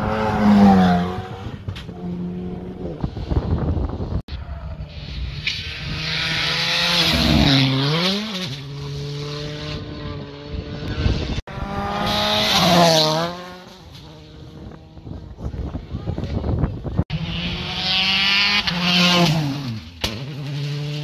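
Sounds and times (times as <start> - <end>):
rally car engine: 0.0 - 21.0.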